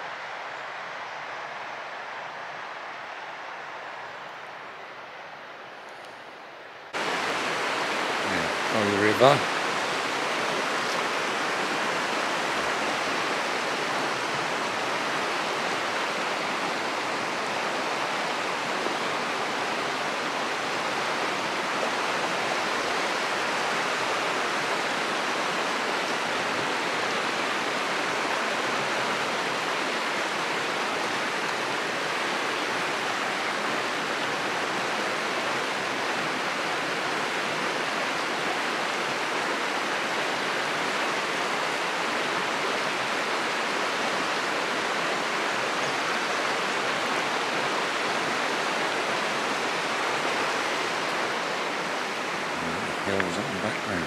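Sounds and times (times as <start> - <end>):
river rushing over rocks: 6.9 - 54.0.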